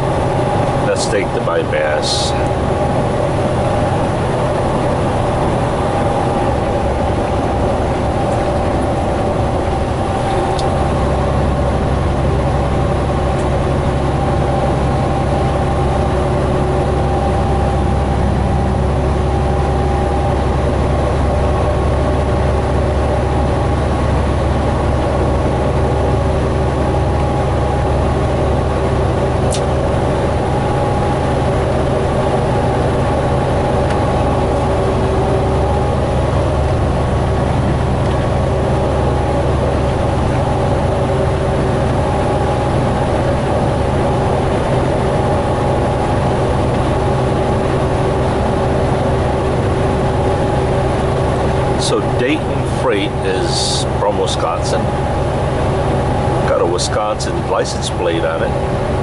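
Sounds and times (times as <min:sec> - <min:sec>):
diesel engine drone: 0:00.0 - 0:59.0
road noise: 0:00.0 - 0:59.0.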